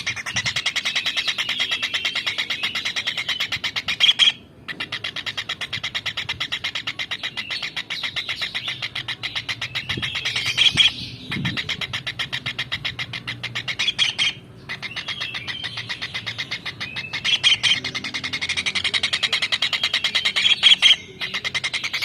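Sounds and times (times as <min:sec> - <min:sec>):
kingfisher chattering call: 0:00.0 - 0:22.0.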